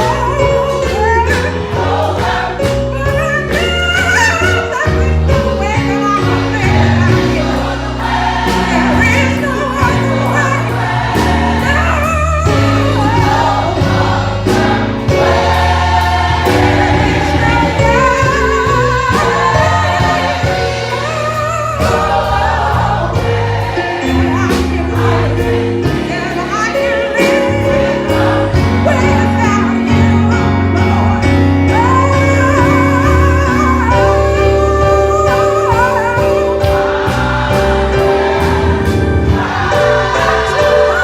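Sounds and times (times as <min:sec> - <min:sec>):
choir singing in harmony: 0:00.0 - 0:03.6, 0:04.3 - 0:41.0
bass-heavy accompaniment with beat: 0:00.0 - 0:41.0.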